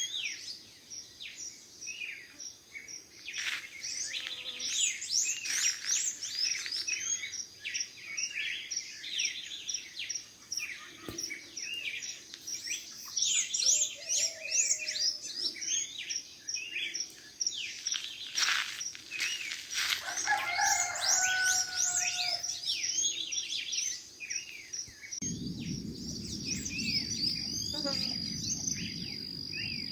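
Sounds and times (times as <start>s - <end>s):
songbirds singing and chirping: 0.0s - 29.9s.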